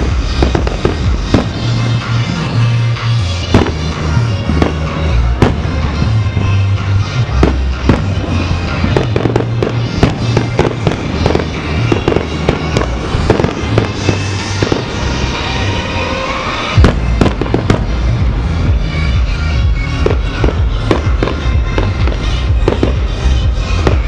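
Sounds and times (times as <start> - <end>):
fireworks bangs: 0.0 - 2.6, 3.4 - 18.4, 20.0 - 24.0
music with heavy bass: 0.0 - 24.0.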